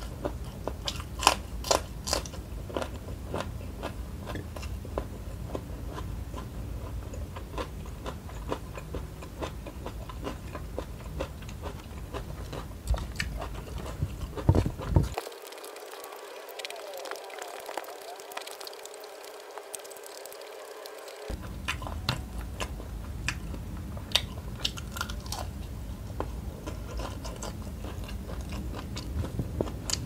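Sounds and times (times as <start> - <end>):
chewing: 0.0 - 30.0.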